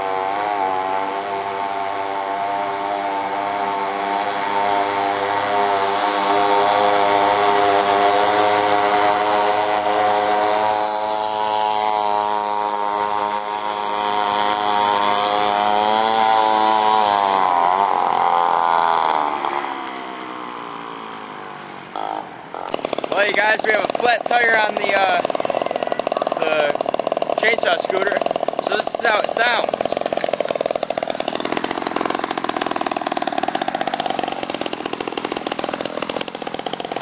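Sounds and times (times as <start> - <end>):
two-stroke engine revving high: 0.0 - 37.0.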